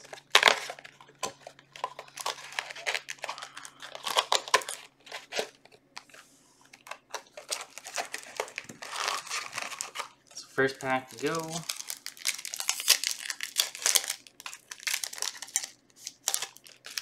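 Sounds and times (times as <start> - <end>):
foil wrappers crinkling: 0.0 - 17.0.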